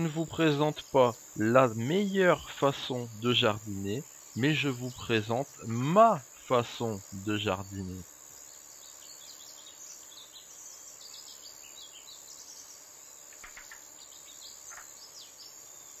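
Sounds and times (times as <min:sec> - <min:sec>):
faint high-pitched whine: 0:00.0 - 0:16.0
small birds chirping: 0:00.0 - 0:16.0.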